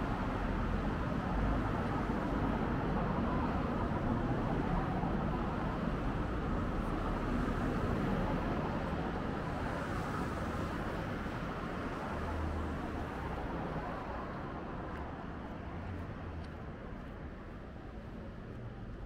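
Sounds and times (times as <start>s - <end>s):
city traffic hum: 0.0s - 19.0s.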